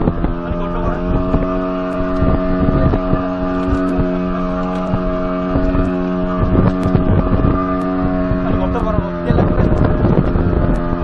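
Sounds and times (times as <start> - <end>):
outboard motor running: 0.0 - 11.0
water and wind rushing: 0.0 - 11.0.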